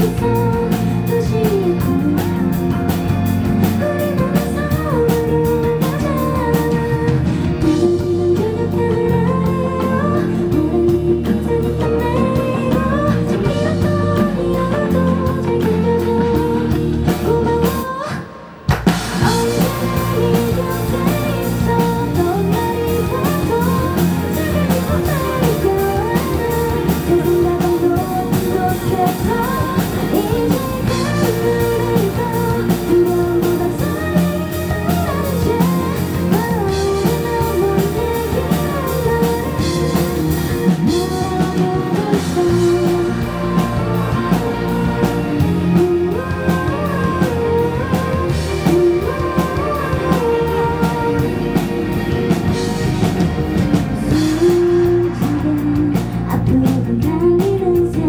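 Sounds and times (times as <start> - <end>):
pop-rock band playing: 0.0 - 58.0
woman singing lead vocal: 0.0 - 58.0.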